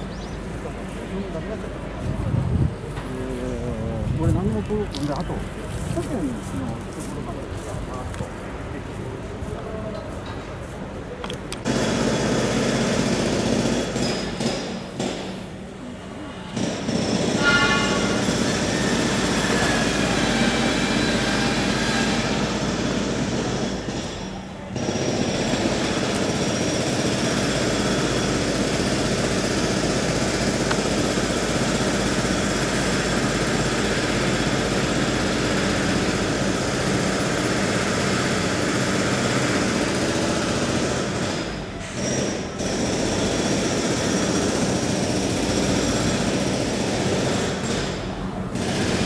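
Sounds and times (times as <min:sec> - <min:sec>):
electric train rumbling: 0:00.0 - 0:49.0.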